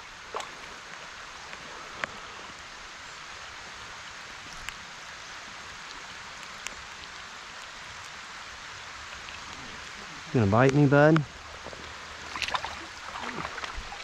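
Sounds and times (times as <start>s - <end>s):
rain falling on creek water: 0.0s - 14.0s.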